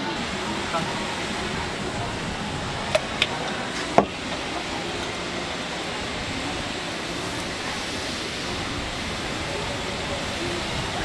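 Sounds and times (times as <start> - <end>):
griddle background noise: 0.0 - 11.0.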